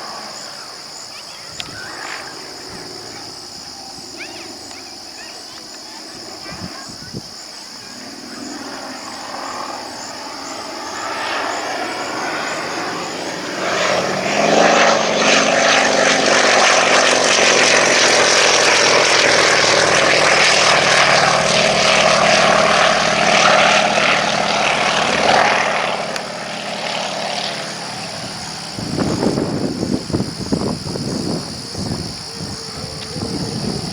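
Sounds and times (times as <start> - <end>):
propeller plane engine passing: 0.0 - 33.9.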